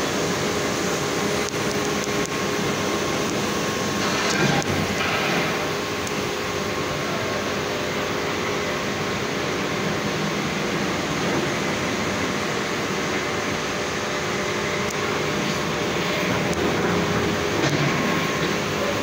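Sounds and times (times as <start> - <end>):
industrial machinery roar: 0.0 - 19.0.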